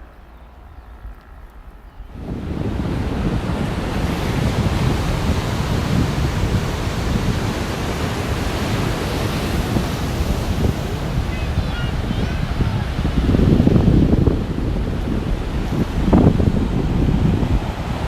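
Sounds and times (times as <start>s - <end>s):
wind buffeting microphone: 0.0s - 18.0s
sea surf: 2.2s - 18.0s.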